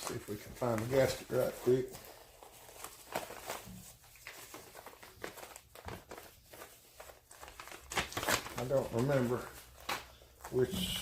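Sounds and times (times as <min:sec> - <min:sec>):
rummaging through a bag: 0:00.0 - 0:11.0.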